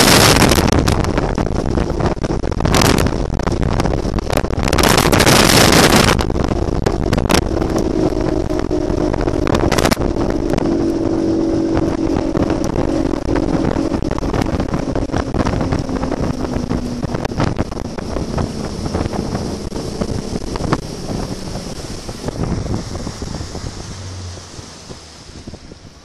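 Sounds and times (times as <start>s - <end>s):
outboard engine: 0.0s - 26.0s
water rushing past hull: 0.0s - 26.0s
wind buffeting microphone: 0.0s - 26.0s.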